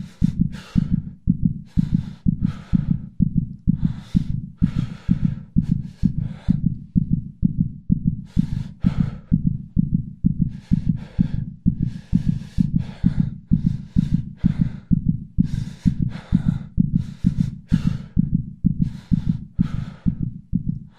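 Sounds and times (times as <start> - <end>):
heavy tense breathing: 0.0 - 7.4, 8.1 - 20.9
steady low pulse: 0.0 - 20.9.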